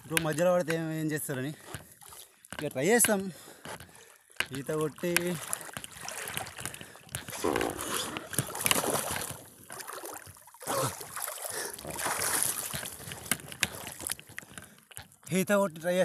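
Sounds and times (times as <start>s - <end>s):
water splashing and sloshing: 0.0s - 15.9s.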